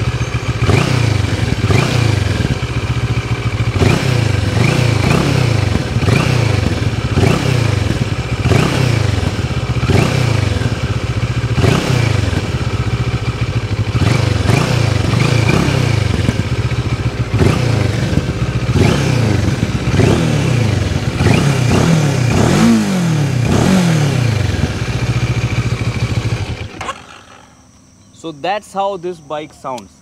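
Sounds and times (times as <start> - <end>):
motorcycle engine idling: 0.0 - 30.0
motorcycle engine revving: 0.0 - 30.0.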